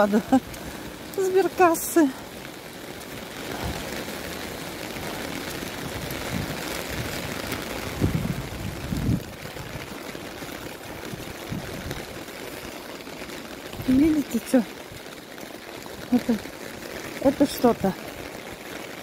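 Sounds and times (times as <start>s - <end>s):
rain on umbrella and street: 0.0s - 19.0s.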